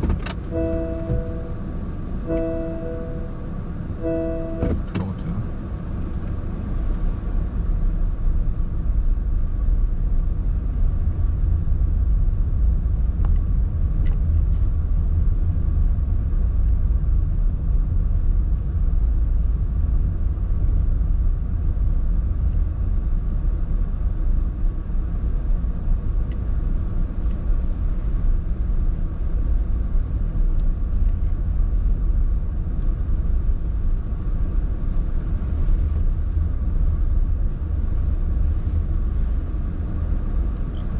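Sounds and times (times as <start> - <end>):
car road rumble: 0.0 - 40.9.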